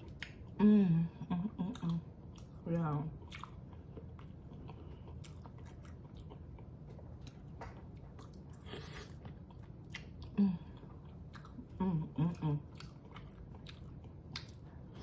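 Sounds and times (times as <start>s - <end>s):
chewing and biting food: 0.0s - 0.6s, 1.5s - 15.0s.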